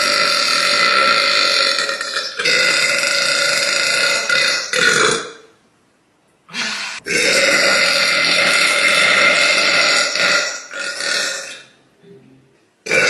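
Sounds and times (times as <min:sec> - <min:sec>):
girl belching: 0:00.0 - 0:05.5, 0:06.5 - 0:11.7.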